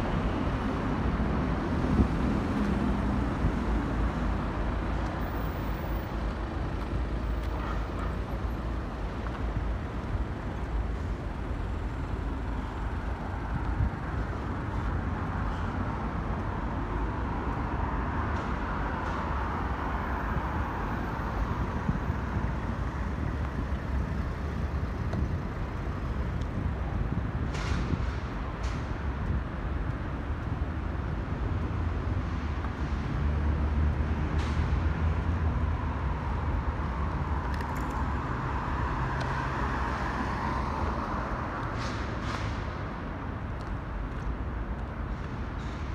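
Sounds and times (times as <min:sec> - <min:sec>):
city traffic rumble: 0:00.0 - 0:45.9.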